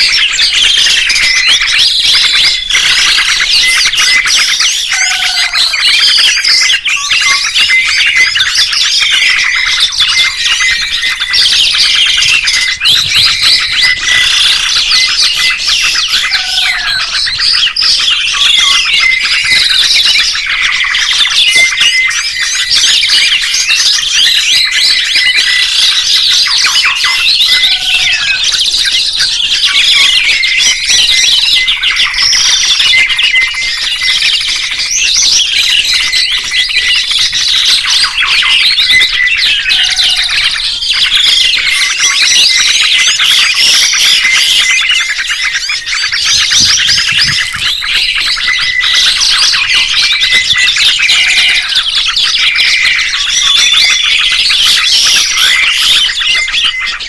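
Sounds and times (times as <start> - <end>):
songbirds chirping and twittering: 0.0 - 57.0.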